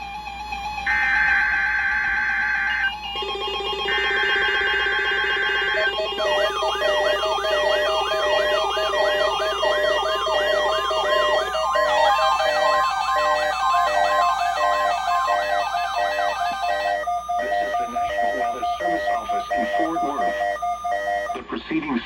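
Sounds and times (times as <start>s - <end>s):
rising and falling alarm tone: 0.0s - 21.5s
buzzy digital header tones: 0.7s - 21.5s.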